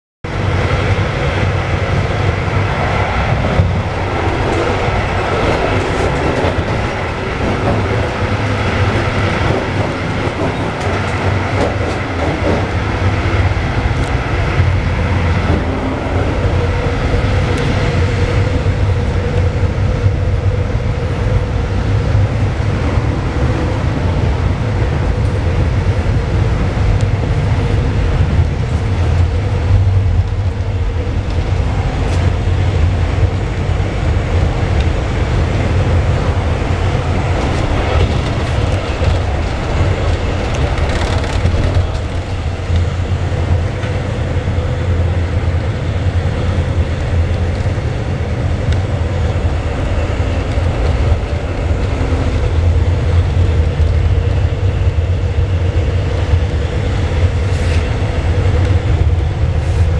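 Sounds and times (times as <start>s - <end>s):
train wheels rumbling on rails: 0.2s - 59.9s.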